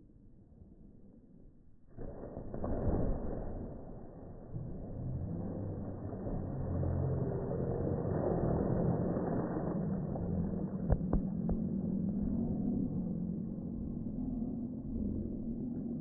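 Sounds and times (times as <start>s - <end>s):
deep slowed water splashing: 0.5s - 16.0s.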